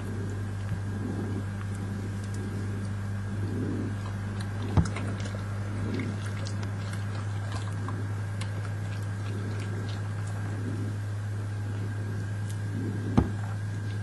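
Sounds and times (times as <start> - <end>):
badgers crunching nuts: 0.0 - 14.0
steady low hum: 0.0 - 14.0.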